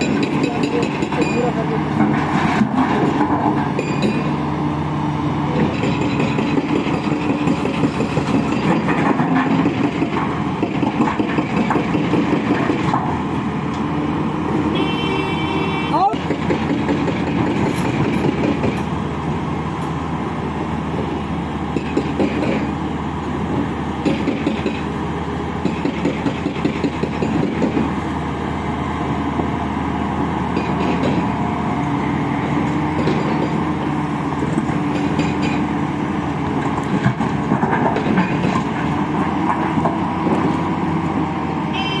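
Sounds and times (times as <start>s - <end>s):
engine whine: 0.0s - 42.0s
excavator diesel engine running: 0.0s - 42.0s.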